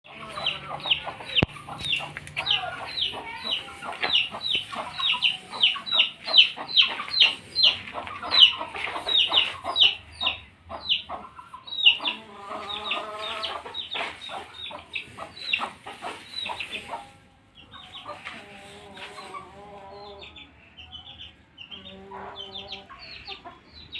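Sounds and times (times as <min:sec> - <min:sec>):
chickens calling: 0:00.0 - 0:23.9
chickens clucking: 0:00.0 - 0:23.9.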